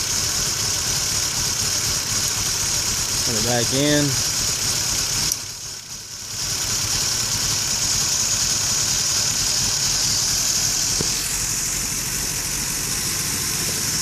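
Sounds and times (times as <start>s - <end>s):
car engine idling roughly: 0.0s - 14.0s.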